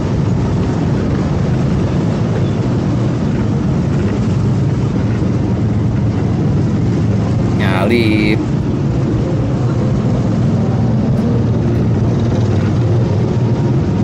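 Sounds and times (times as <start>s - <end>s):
road noise: 0.0s - 14.0s
wind noise: 0.0s - 14.0s.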